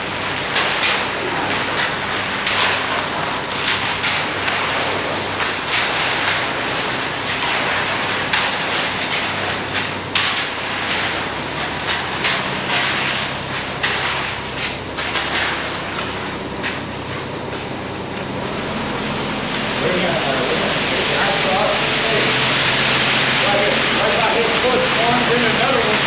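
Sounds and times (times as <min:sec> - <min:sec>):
heavy machinery running: 0:00.0 - 0:26.0.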